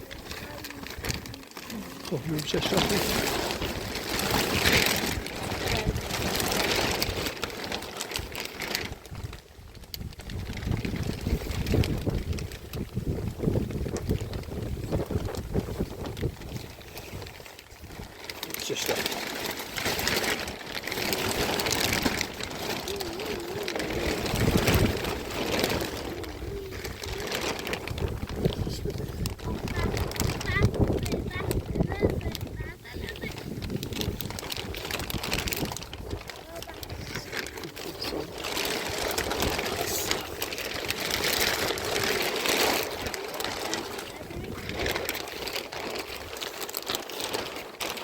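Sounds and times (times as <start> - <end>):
plastic sheet rustling: 0.0 - 48.0
rain: 0.0 - 48.0
wind: 0.0 - 48.0.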